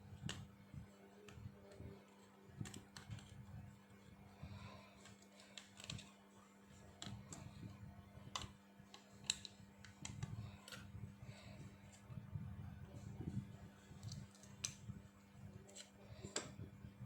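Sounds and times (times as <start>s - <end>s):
steady low hum: 0.0s - 17.0s
light clicks and taps: 0.1s - 12.1s, 12.9s - 16.7s.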